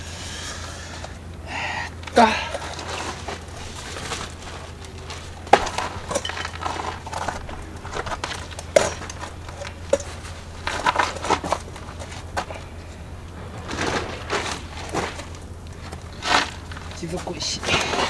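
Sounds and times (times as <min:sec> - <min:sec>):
steady low hum: 0:00.0 - 0:18.0
light rustling: 0:02.0 - 0:18.0.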